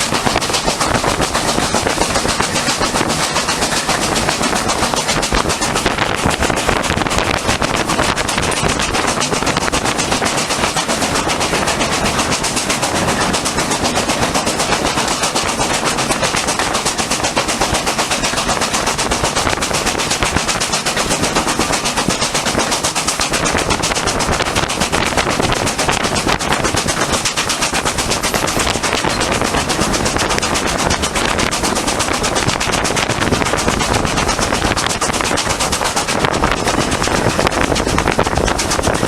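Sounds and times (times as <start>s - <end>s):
steam locomotive exhaust beating: 0.0s - 39.0s.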